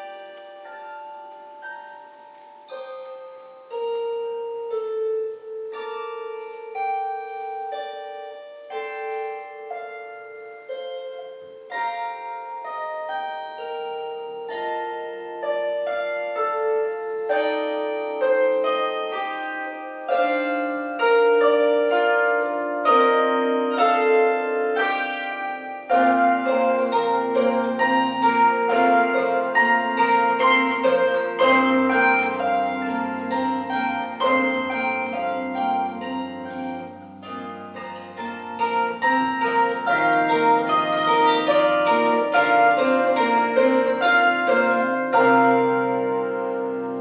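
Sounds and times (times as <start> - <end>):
plucked zither melody: 0.0 - 47.0.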